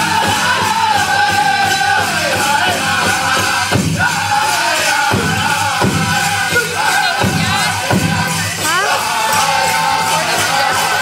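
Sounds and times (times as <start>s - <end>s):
group singing in high voices: 0.0s - 11.0s.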